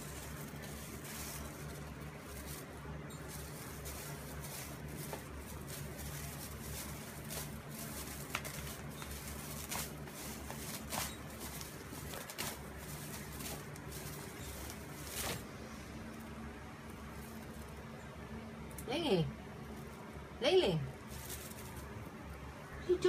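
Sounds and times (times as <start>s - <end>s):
plastic bag crinkling: 0.0s - 17.9s, 21.0s - 22.2s
steady low hum: 0.0s - 23.0s.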